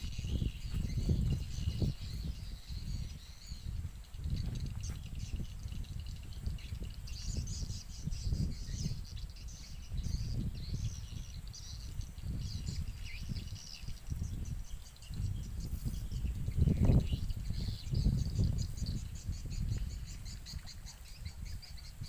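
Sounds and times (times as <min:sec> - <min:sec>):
birds chirping: 0:00.0 - 0:22.0
wind buffeting microphone: 0:00.0 - 0:22.0.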